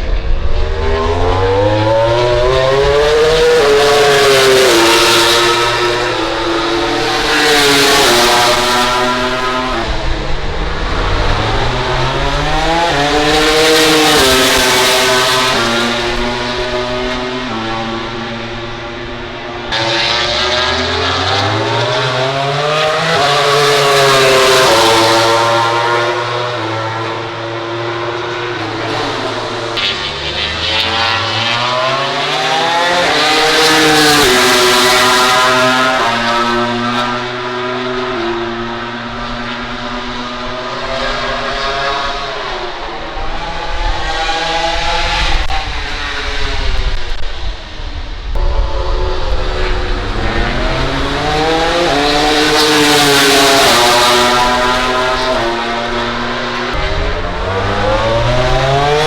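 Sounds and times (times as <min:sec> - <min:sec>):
race motorcycle engine revving: 0:00.0 - 0:59.0.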